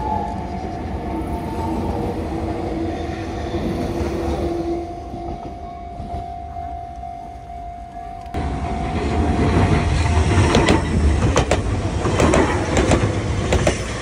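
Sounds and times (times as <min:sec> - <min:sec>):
train rumbling with whine: 0:00.0 - 0:14.0.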